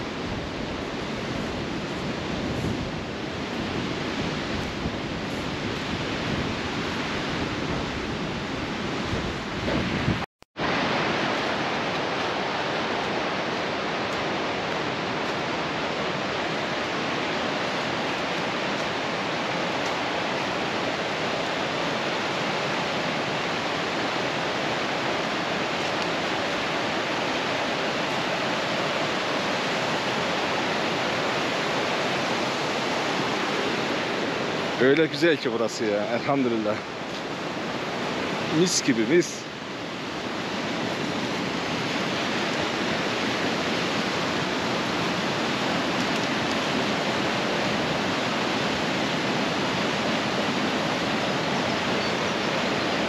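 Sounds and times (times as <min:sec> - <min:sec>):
wind rumbling on microphone: 0:00.0 - 0:38.7, 0:39.4 - 0:53.0
stream rushing over stones: 0:00.0 - 0:53.0.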